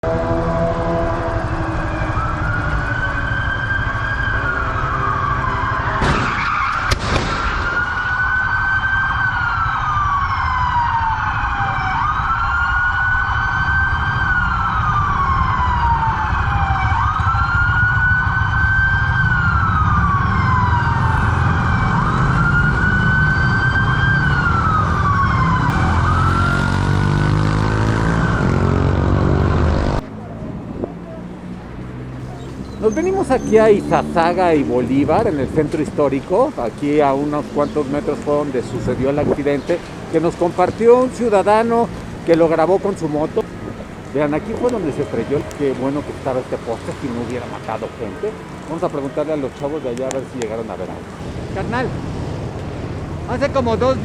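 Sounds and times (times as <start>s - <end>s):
police siren wailing: 0.0s - 51.1s
engine and traffic rumble: 0.0s - 54.0s.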